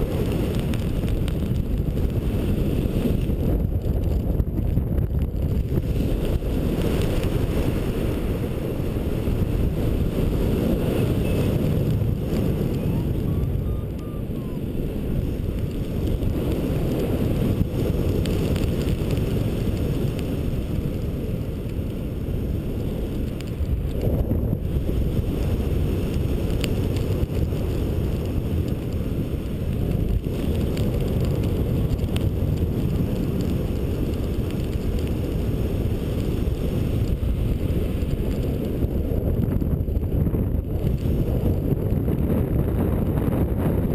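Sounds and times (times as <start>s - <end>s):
wind rumble on microphone: 0.0s - 43.9s.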